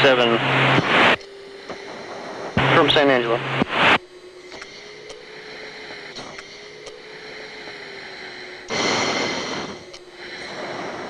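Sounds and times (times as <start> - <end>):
radio static burst: 0.0 - 7.8, 8.7 - 11.0
cockpit droning hum: 0.0 - 11.0.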